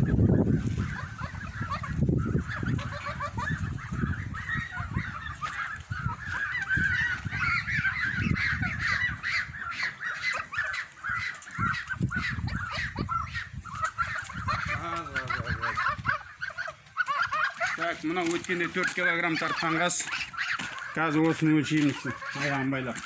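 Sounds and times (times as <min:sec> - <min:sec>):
geese honking: 0:00.0 - 0:23.0.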